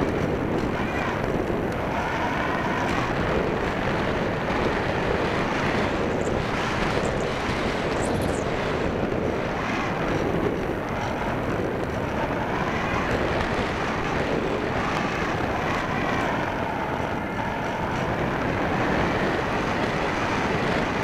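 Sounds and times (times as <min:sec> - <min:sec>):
rush of air in flight: 0:00.0 - 0:21.0.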